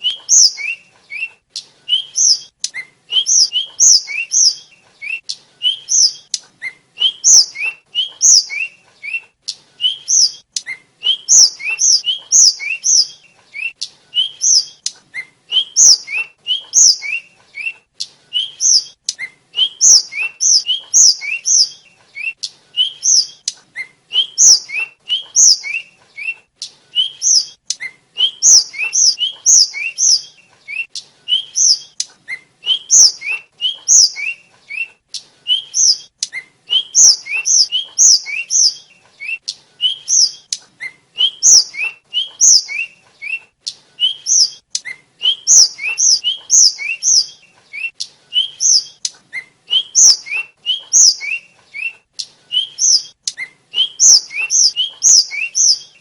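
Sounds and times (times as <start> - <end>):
bird singing high whistled notes: 0.0 - 56.0.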